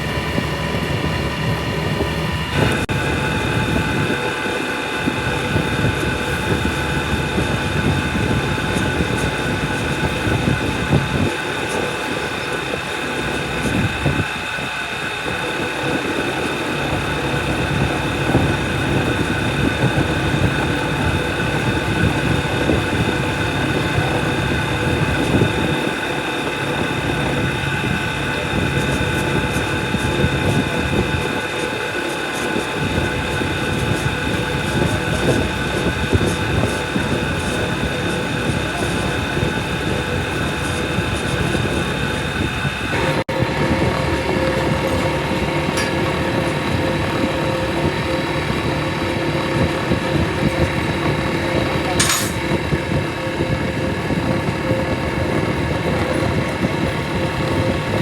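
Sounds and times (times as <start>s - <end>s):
high machine whine: 0.0s - 58.0s
machinery rumbling: 0.0s - 58.0s.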